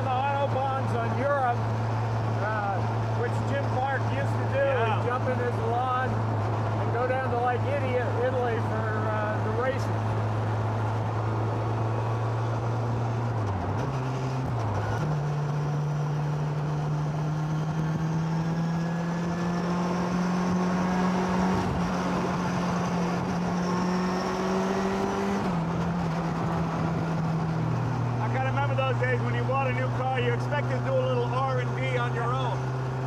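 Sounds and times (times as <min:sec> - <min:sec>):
car engine droning: 0:00.0 - 0:33.0
road noise: 0:00.0 - 0:33.0.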